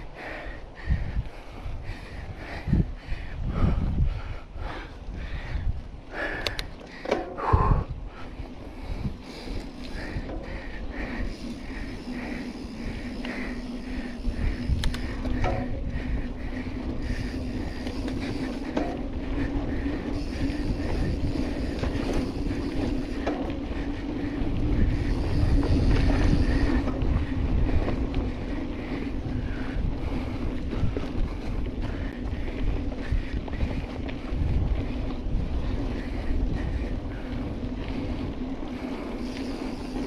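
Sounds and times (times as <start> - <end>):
bike rolling on dirt trail: 0.0 - 40.0
wind buffeting microphone: 0.0 - 40.0.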